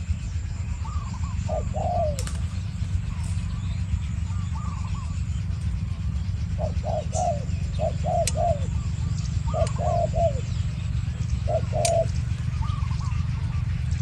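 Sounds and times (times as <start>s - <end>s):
doves cooing: 0.0s - 14.0s
low rumble: 0.0s - 14.0s.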